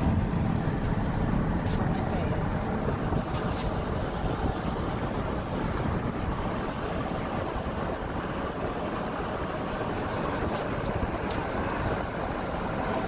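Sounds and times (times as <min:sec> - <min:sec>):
car road noise: 0:00.0 - 0:13.0
wind buffeting microphone: 0:00.0 - 0:13.0.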